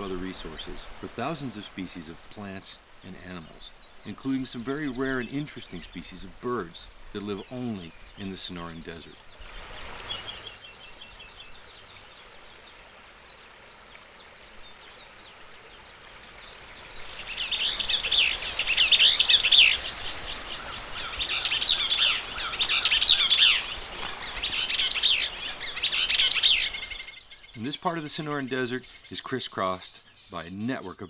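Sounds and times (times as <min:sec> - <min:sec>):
songbird warbling: 0:00.0 - 0:31.0.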